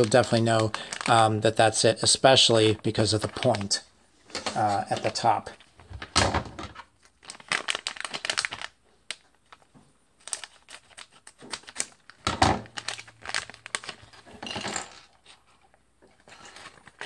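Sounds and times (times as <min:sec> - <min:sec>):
plastic foil bag crinkling: 0:00.0 - 0:03.8, 0:04.4 - 0:15.4, 0:16.2 - 0:17.0.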